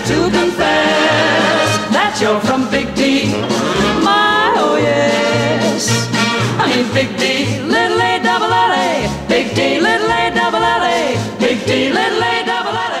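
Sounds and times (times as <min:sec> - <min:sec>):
swing song with pulsing bass: 0:00.0 - 0:13.0.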